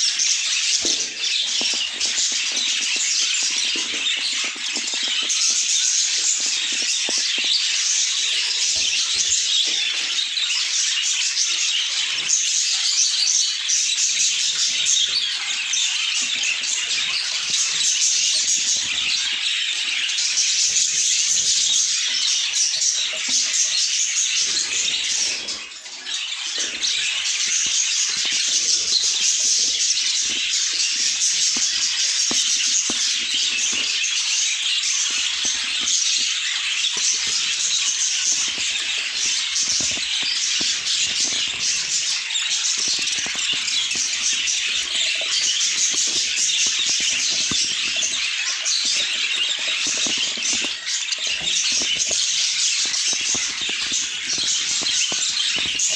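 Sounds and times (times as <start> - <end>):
budgerigars chattering: 0.0 - 55.9.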